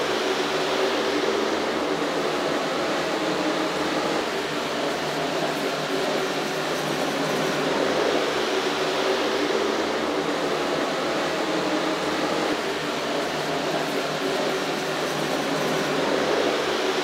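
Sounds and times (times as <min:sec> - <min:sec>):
shop equipment rushing noise: 0:00.0 - 0:17.0.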